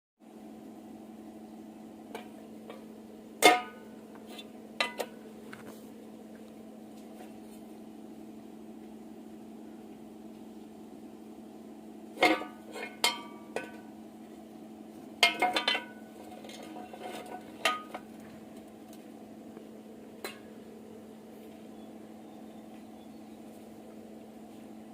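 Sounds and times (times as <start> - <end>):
low electrical hum: 0.2 - 24.9.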